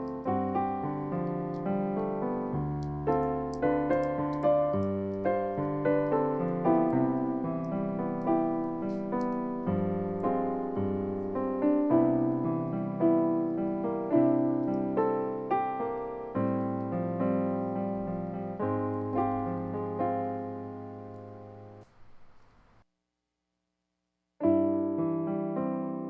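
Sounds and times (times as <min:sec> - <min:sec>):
piano music: 0:00.0 - 0:21.9, 0:24.4 - 0:26.0.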